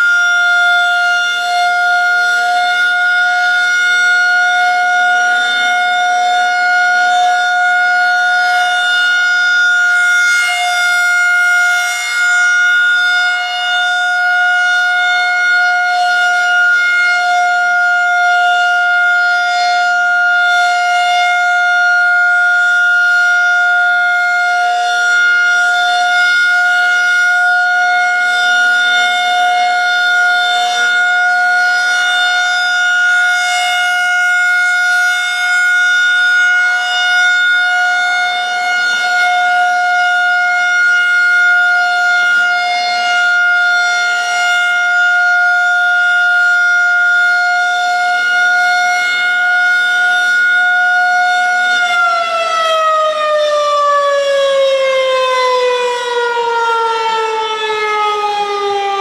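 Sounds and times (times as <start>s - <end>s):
rotating siren wailing: 0.0s - 59.0s.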